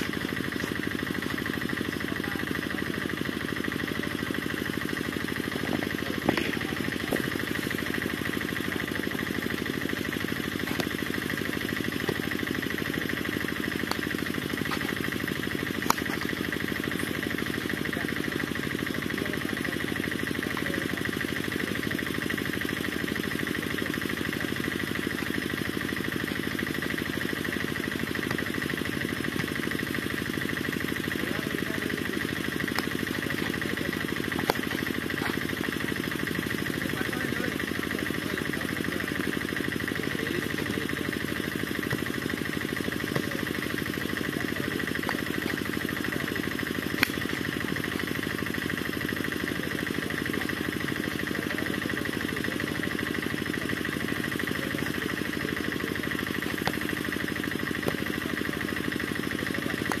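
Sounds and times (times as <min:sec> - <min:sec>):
engine idling: 0:00.0 - 1:00.0.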